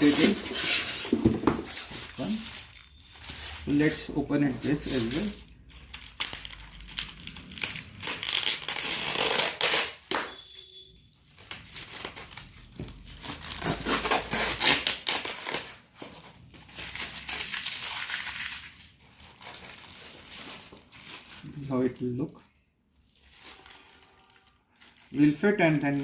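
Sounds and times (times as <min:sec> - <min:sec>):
packing material crinkling and tearing: 0:00.0 - 0:26.0.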